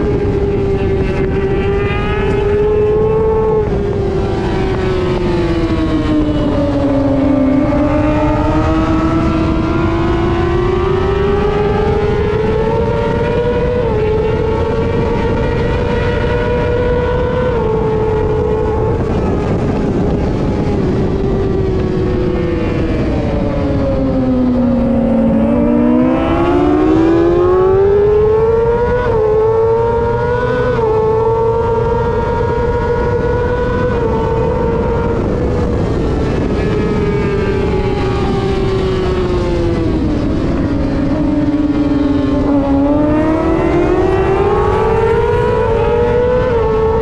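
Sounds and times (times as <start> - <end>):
motorbike engine at racing speed: 0.0 - 47.0.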